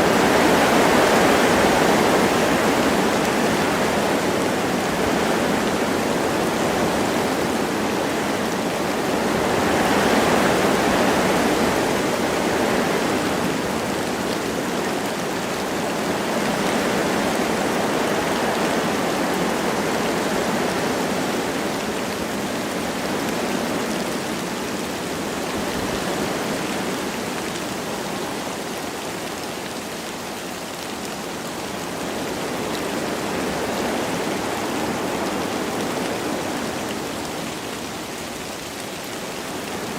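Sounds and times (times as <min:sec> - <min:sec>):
light rain: 0:00.0 - 0:39.9
wind through trees: 0:00.0 - 0:39.9.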